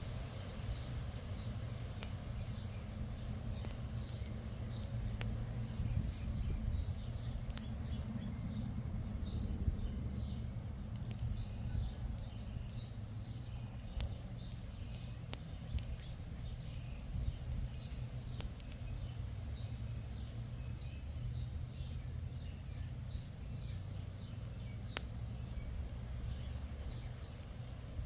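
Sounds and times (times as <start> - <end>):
burning wood popping: 0.0 - 7.9, 10.7 - 21.3, 23.9 - 28.0
low steady rumble: 0.0 - 28.0.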